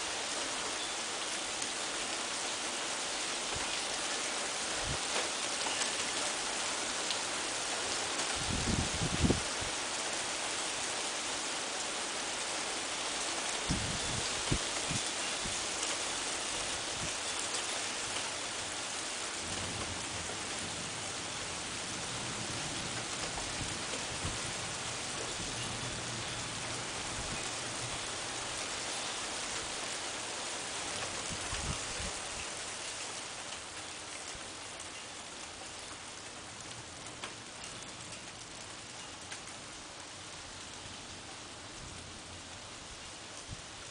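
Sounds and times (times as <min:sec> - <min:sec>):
heavy rain falling: 0:00.0 - 0:43.9
sharp ticks of raindrops: 0:00.2 - 0:43.9.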